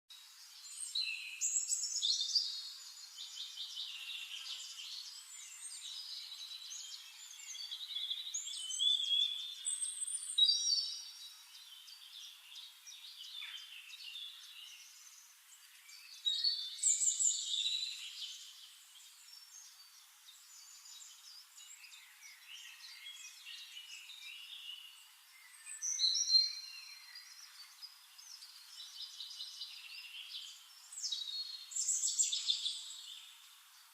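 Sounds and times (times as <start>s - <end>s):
soft bird chirping: 0.1s - 33.9s
songbirds warbling: 0.2s - 33.9s.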